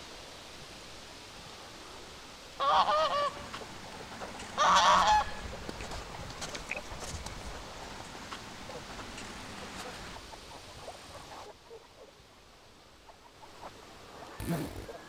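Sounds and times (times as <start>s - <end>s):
background hiss: 0.0s - 15.0s
birds calling: 2.5s - 15.0s.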